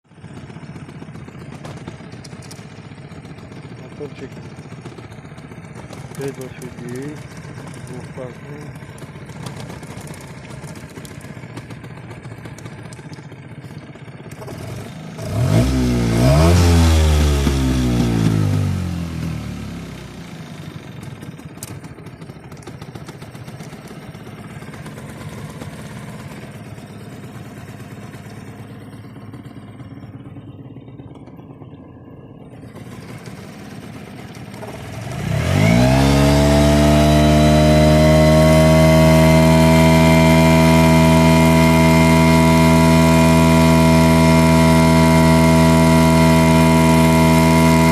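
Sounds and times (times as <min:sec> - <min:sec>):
outboard motor idling and revving: 0:00.0 - 0:47.9.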